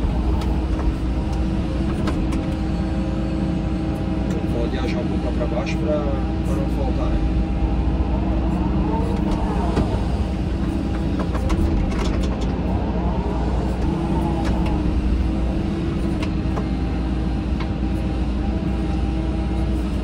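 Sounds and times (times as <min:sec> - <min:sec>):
diesel engine running: 0:00.0 - 0:20.0
hydraulic whine: 0:00.0 - 0:20.0.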